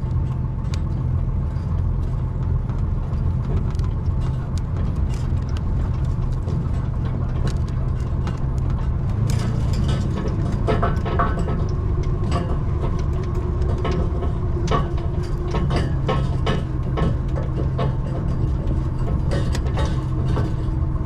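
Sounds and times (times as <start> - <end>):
heavy engine running: 0.0 - 21.0.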